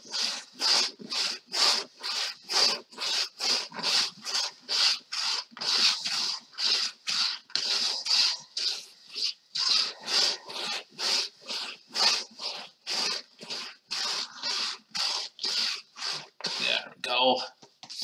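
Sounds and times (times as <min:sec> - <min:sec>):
paintbrush scrubbing on canvas: 0:00.0 - 0:16.9.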